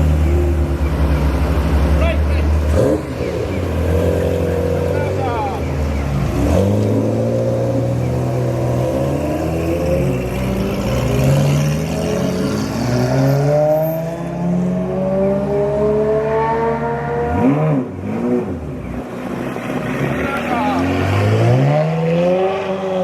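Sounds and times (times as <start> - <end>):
sports car engine accelerating: 0.0 - 23.0.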